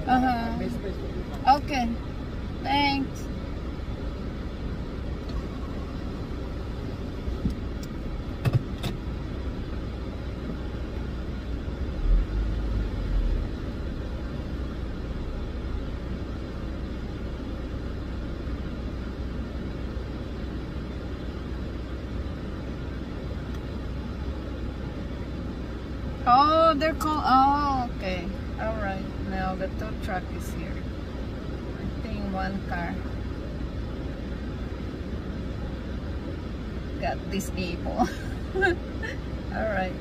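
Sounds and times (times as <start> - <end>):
car idling: 0.0 - 40.0.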